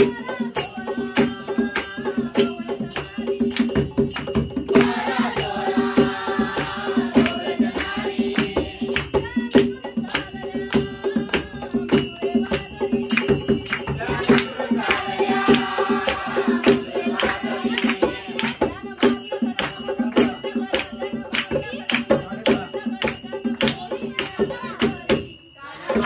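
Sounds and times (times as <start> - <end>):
group singing: 0.0 - 25.0, 25.6 - 26.0
sharp percussion beat: 0.0 - 26.0.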